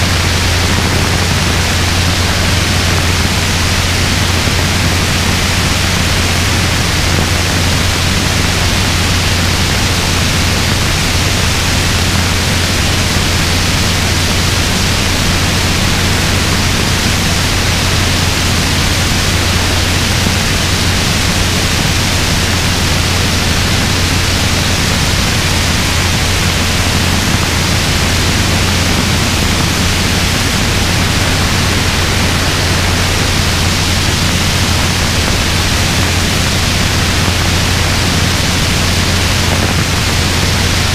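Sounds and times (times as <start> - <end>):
helicopter in flight: 0.0 - 40.9.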